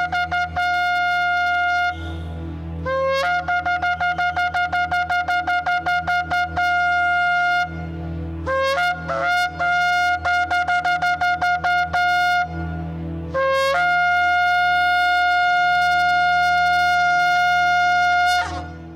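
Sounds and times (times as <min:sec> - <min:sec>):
horn blasts: 0:00.0 - 0:18.9.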